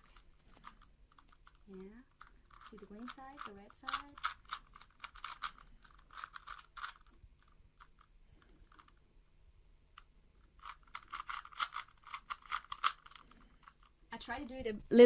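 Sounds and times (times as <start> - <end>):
puzzle cube clicking and rattling: 0.0 - 9.0, 10.0 - 13.9.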